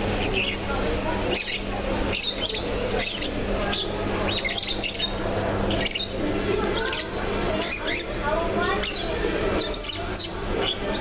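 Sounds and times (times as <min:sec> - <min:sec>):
caged birds squawking and chirping: 0:00.0 - 0:11.0
steady low hum: 0:00.0 - 0:11.0.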